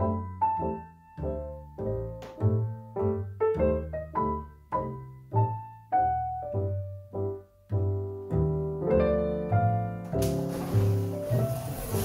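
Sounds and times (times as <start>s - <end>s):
piano single notes: 0.0s - 12.0s.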